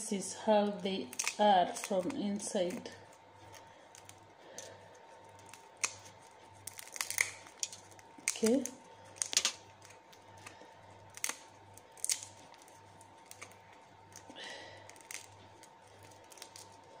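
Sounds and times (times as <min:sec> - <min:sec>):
chestnut shells snapping: 0:00.8 - 0:02.9, 0:03.5 - 0:17.0.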